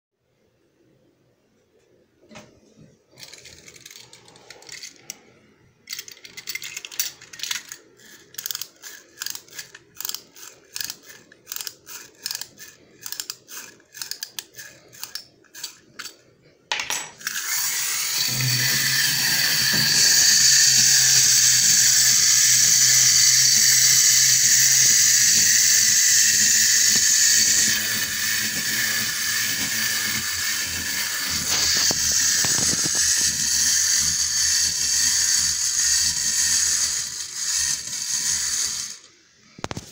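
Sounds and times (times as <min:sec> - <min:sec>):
spring motor whirring: 0:03.1 - 0:05.3, 0:05.9 - 0:16.2, 0:17.2 - 0:39.9
wind-up key ratchet clicks: 0:03.2 - 0:05.2, 0:05.9 - 0:16.2, 0:17.2 - 0:39.1.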